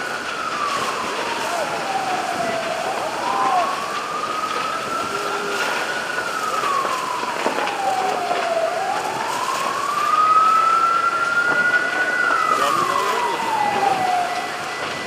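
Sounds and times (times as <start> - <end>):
emergency siren wailing: 0.0 - 15.0.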